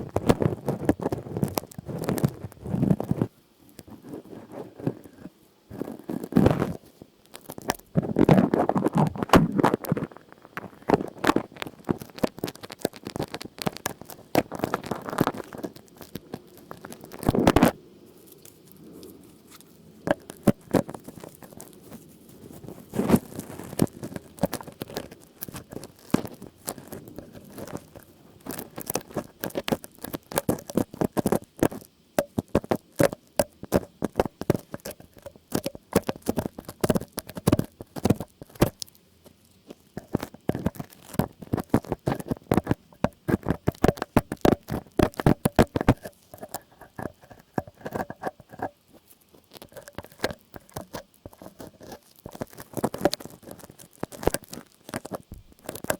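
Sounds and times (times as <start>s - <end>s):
crisp tapping and scratching: 0.0s - 55.9s.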